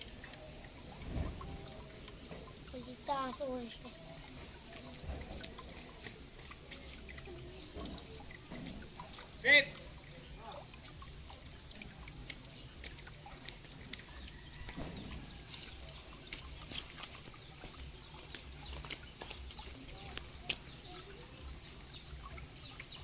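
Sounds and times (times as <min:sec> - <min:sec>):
water trickling and dripping: 0:00.0 - 0:23.0.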